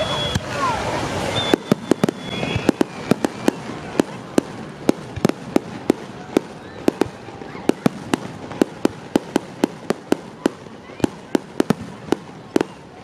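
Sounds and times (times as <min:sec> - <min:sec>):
fireworks shells bursting: 0:01.2 - 0:12.8.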